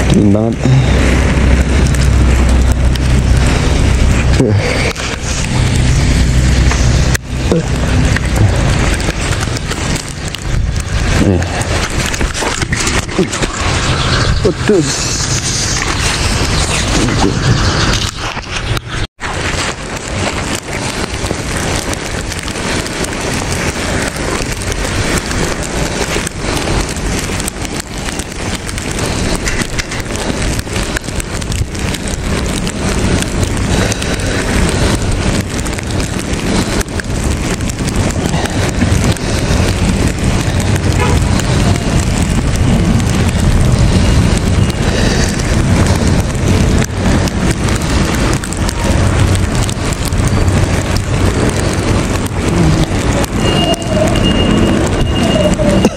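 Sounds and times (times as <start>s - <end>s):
wind rushing on microphone: 0.0s - 55.9s.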